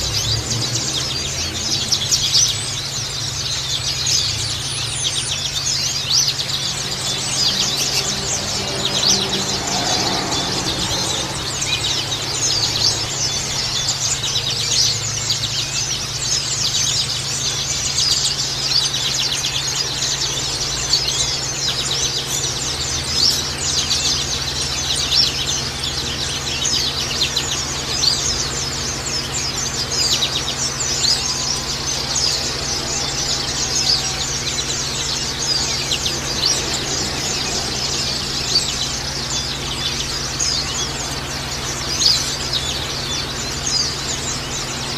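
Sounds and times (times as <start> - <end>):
birds chirping and twittering: 0.0 - 44.9
steady low hum: 0.0 - 44.9.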